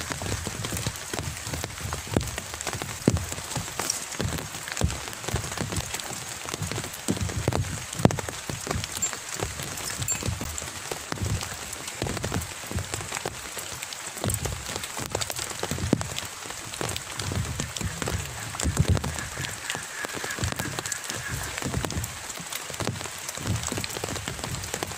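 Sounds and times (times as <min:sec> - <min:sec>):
drops tapping on canopy: 0:00.0 - 0:24.9
rain on umbrella and pond: 0:00.0 - 0:24.9.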